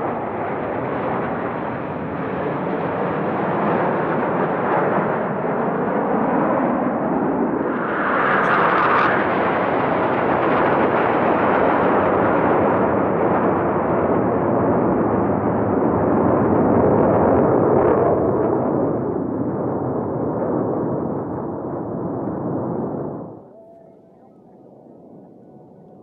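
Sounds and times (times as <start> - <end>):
jet fighters flying past: 0.0 - 26.0.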